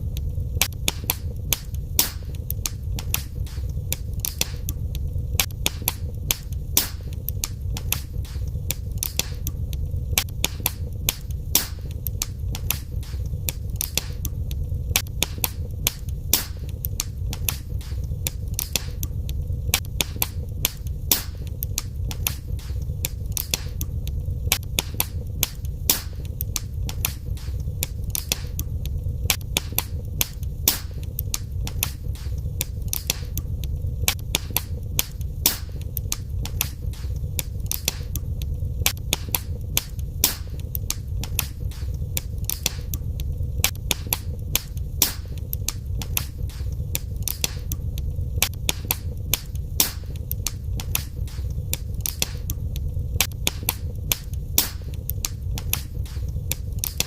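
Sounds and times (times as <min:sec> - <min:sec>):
fire pops and snaps: 0:00.0 - 0:57.0
low rumble of fire: 0:00.0 - 0:57.0.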